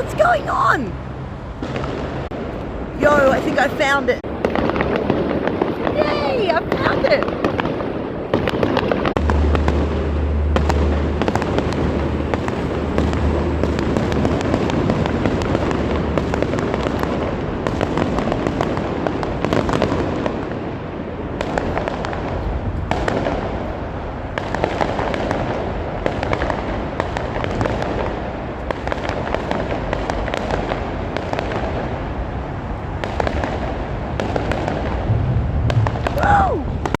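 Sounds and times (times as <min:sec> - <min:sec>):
fireworks crackling and popping: 0:01.6 - 0:37.0.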